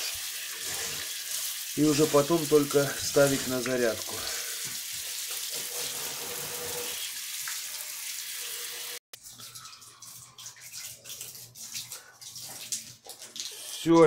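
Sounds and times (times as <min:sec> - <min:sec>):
shower spraying on plastic: 0:00.0 - 0:14.0.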